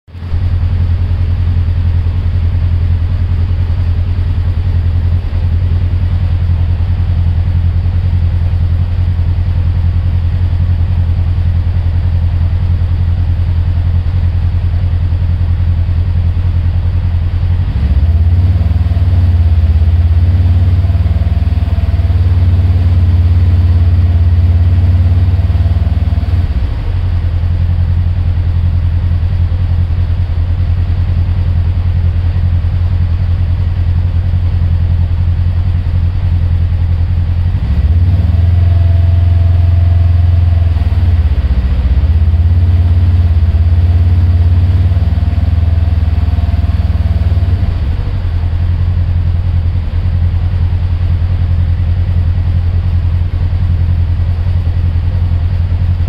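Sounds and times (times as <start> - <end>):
engine idling: 0.1 - 56.0.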